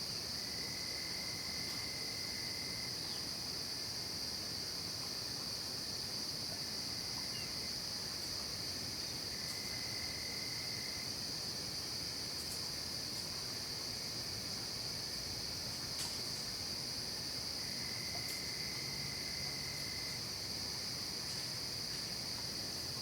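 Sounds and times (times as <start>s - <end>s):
crickets trilling: 0.0s - 23.0s
lower insect trill: 0.0s - 23.0s.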